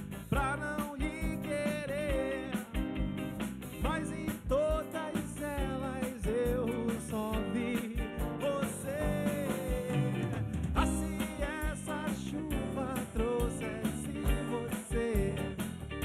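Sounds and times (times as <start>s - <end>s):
rock band playing: 0.0s - 16.0s
man singing: 0.3s - 3.1s, 3.8s - 16.0s.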